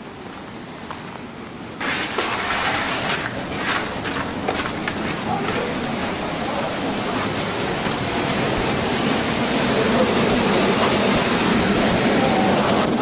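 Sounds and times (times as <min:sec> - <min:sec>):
waterfall rushing: 0:01.9 - 0:13.0.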